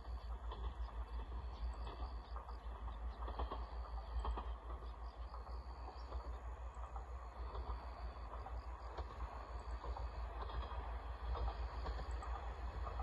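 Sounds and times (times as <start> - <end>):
faint insects chirping: 0.0 - 13.0.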